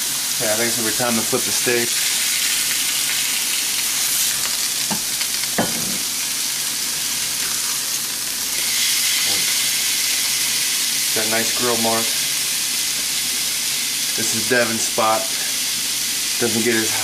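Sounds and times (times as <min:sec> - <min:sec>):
steaks sizzling on grill pans: 0:00.0 - 0:17.0.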